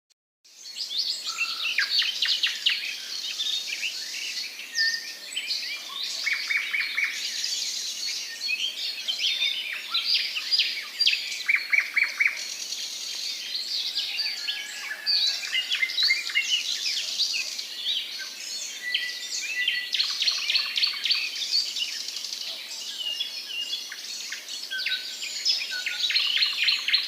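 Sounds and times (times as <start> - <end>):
songbirds singing and chirping: 0.5 - 27.0.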